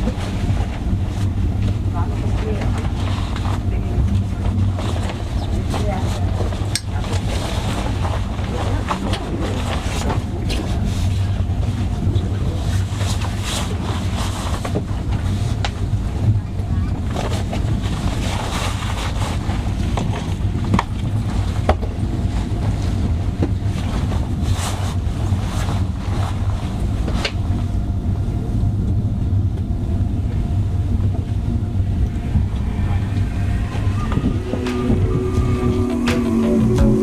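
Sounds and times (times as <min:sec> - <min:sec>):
train cabin rumble: 0:00.0 - 0:37.0.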